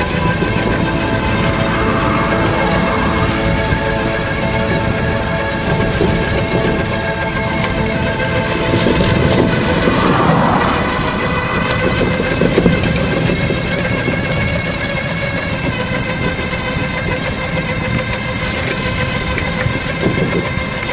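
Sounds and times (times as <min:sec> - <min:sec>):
riding rumble: 0:00.0 - 0:20.9.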